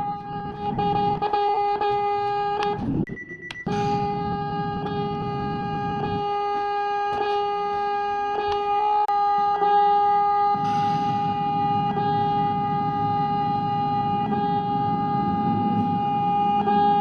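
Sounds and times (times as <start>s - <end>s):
horn long steady note: 0.0s - 3.1s, 3.7s - 17.0s
low rumble: 0.0s - 9.2s, 10.0s - 17.0s.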